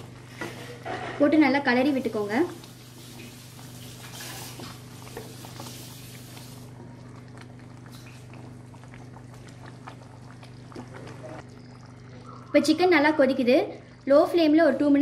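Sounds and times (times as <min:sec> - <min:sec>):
curry bubbling: 0:00.0 - 0:15.0.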